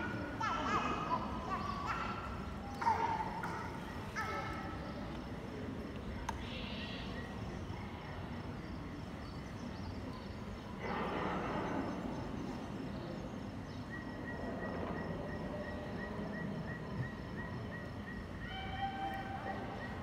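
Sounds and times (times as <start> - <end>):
faint pulsing high chirps: 0.0 - 20.0.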